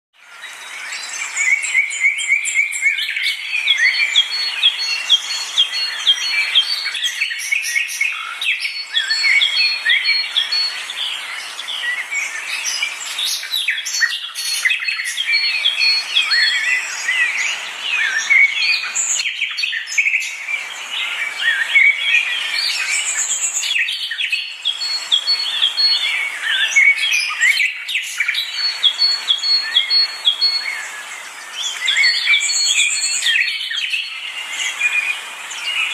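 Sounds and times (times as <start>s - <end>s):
small birds chirping and singing: 0.2s - 35.9s.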